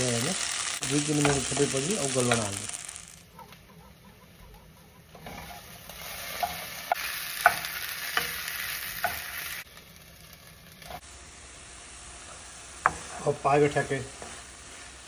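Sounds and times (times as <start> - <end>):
vegetables sizzling in oil: 0.0 - 3.3, 5.0 - 15.0.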